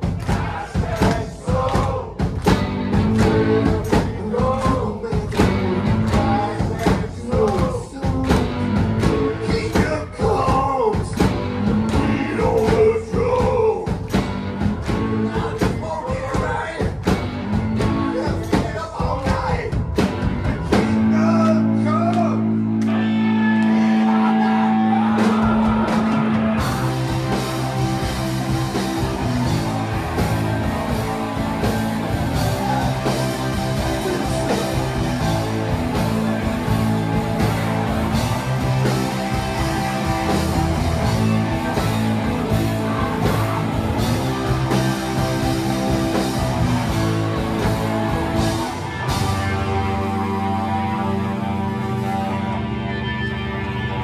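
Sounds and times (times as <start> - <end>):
drums: 0.0 - 54.0
electric guitars: 0.0 - 54.0.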